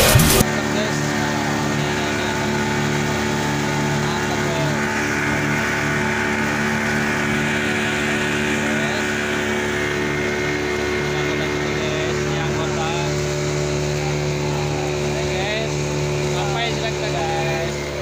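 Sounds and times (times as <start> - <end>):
outboard motor running: 0.0 - 18.0
water rushing from wake: 0.0 - 18.0.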